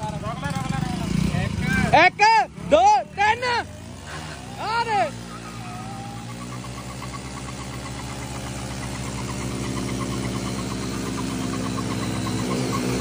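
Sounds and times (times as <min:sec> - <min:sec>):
motorcycle engines running hard: 0:00.0 - 0:13.0
tyres spinning in dirt: 0:00.0 - 0:13.0.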